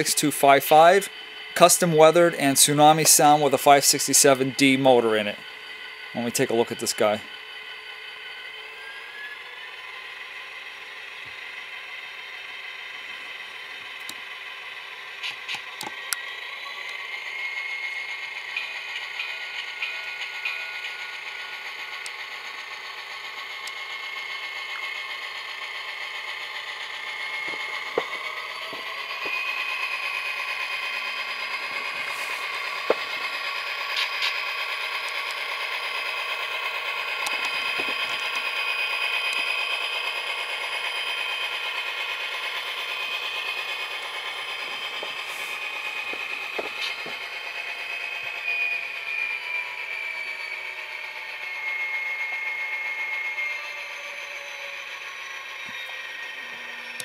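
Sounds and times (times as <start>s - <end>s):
model locomotive engine sound: 0.0s - 57.0s.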